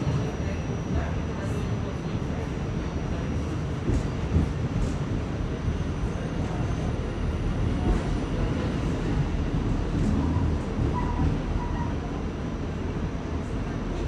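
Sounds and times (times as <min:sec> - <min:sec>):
subway wheels rumbling on rails: 0:00.0 - 0:14.0.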